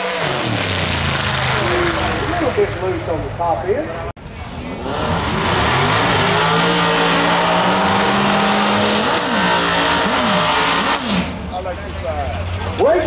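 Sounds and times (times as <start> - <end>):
race car engine at high revs: 0.0 - 3.1, 4.3 - 12.8.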